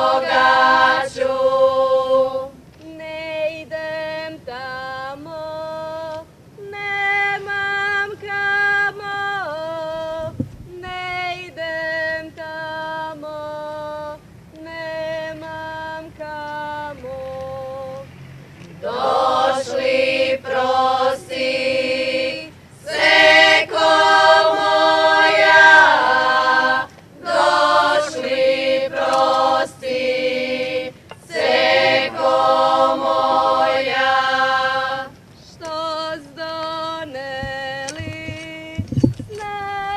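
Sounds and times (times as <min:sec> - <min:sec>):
group of women singing: 0:00.0 - 0:18.1, 0:18.8 - 0:39.9
woman singing: 0:00.0 - 0:18.1, 0:18.8 - 0:39.9.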